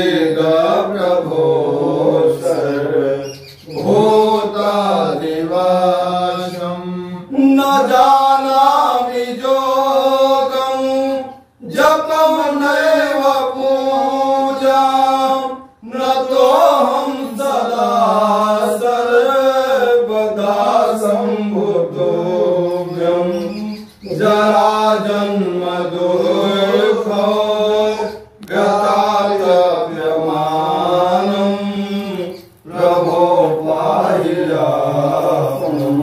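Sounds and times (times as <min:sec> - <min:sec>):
man chanting: 0:00.0 - 0:36.0.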